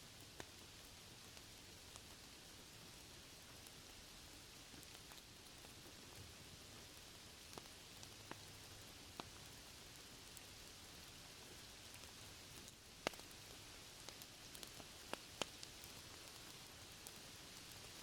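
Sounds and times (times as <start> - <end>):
faint steady rain: 0.0 - 18.0.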